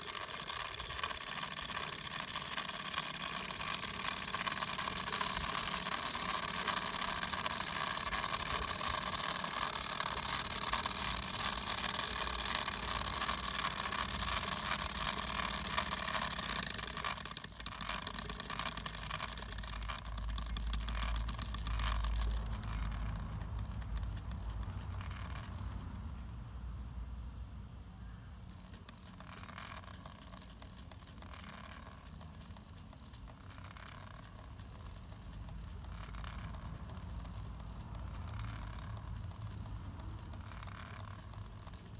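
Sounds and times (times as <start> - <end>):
small steam engine chuffing: 0.0 - 25.9, 28.2 - 41.9
light metallic rattle: 0.0 - 26.2, 28.4 - 41.9.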